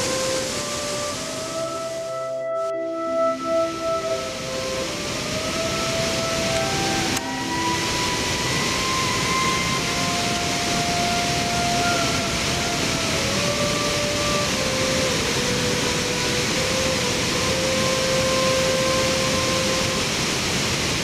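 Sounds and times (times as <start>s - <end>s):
soft background music: 0.0s - 20.2s
water pouring over dam: 3.6s - 21.0s.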